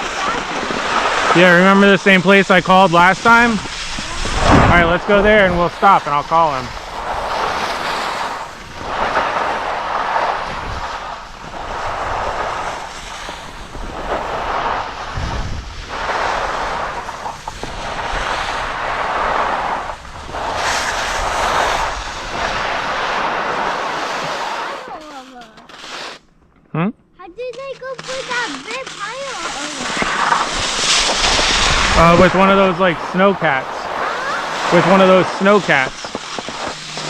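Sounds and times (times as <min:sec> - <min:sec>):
skis scraping over snow: 0:00.0 - 0:26.2, 0:27.5 - 0:37.0.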